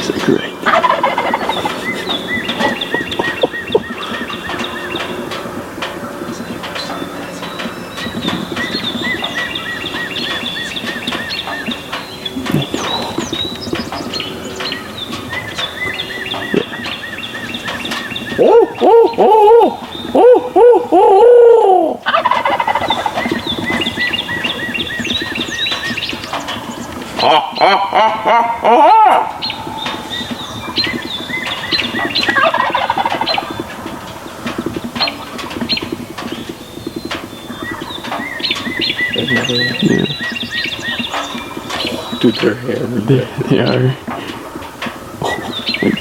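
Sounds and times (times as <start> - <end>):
loud low bird calls: 0.0 - 46.0
songbird high chirps: 0.0 - 46.0
turkeys gobbling: 0.0 - 46.0.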